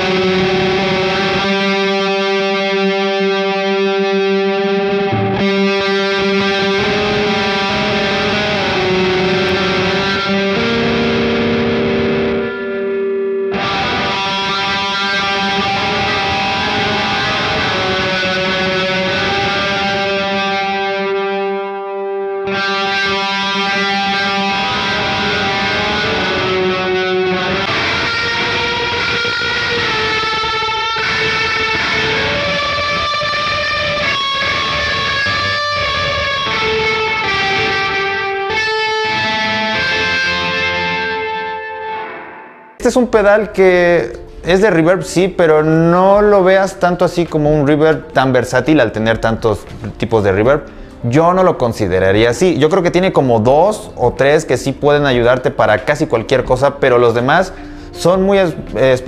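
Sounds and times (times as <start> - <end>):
electric guitar with reverb: 0.0 - 59.0.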